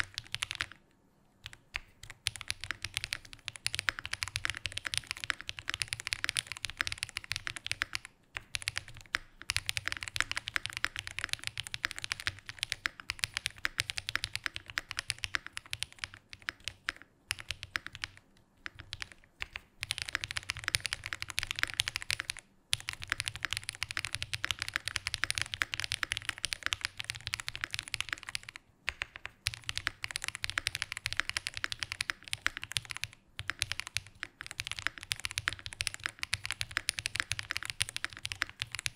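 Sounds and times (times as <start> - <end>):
mechanical keyboard typing: 0.0 - 0.8, 1.4 - 38.9.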